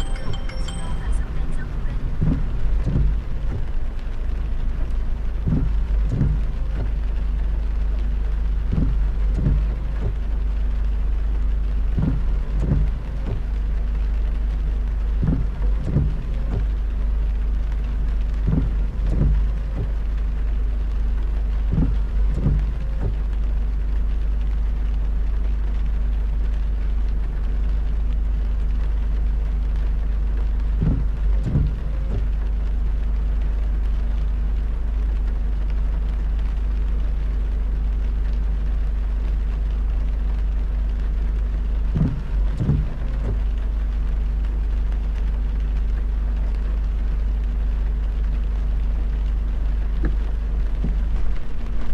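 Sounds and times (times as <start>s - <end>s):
car road rumble: 0.0s - 51.9s
rain hiss: 0.0s - 51.9s.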